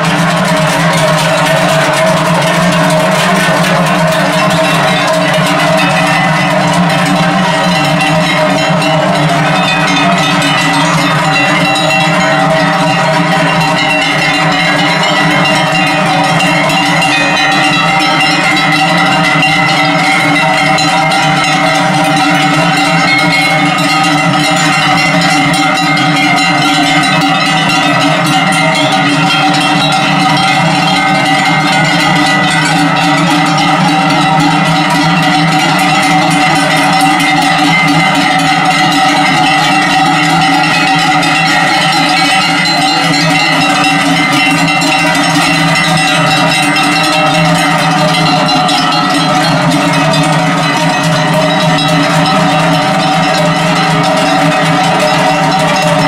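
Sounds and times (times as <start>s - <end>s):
cowbells clanging: 0.0s - 56.0s.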